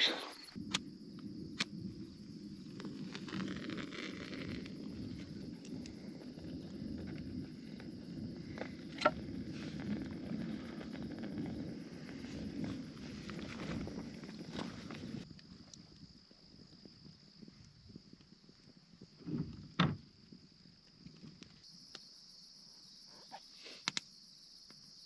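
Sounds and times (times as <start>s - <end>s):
breeze rumbling on microphone: 0.0s - 21.6s
crickets chirping: 0.0s - 25.0s.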